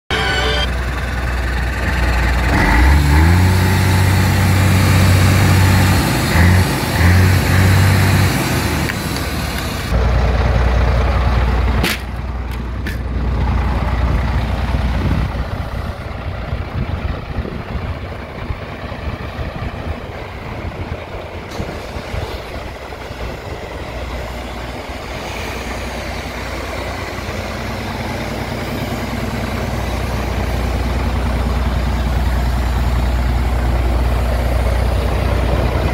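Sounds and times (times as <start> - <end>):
diesel engine idling: 0.1 - 35.9.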